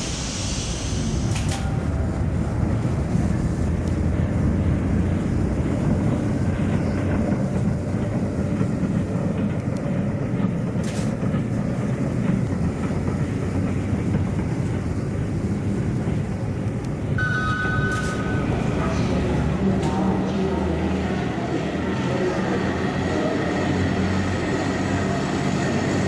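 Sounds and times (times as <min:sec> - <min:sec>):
electric train rumbling on rails: 0:00.0 - 0:26.0.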